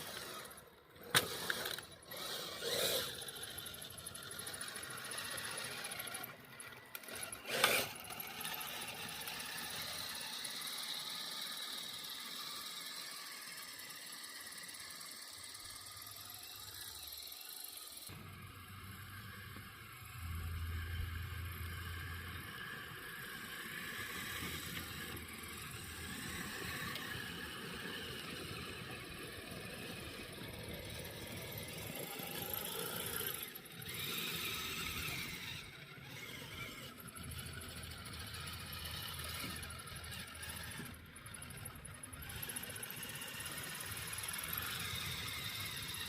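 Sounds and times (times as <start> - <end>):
small electric motor running: 0.0 - 46.0.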